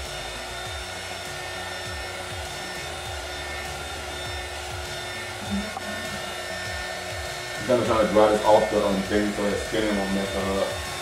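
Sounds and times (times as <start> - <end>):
electric dryer blowing air: 0.0 - 11.0.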